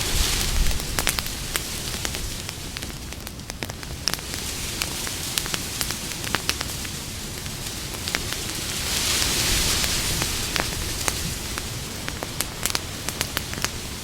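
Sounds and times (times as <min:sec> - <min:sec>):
campfire crackling and popping: 0:00.0 - 0:14.0
hiss of burning wood: 0:00.0 - 0:14.0.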